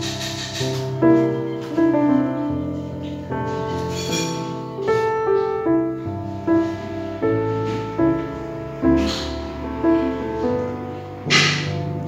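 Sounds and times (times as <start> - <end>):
slow gentle melody: 0.0 - 12.0.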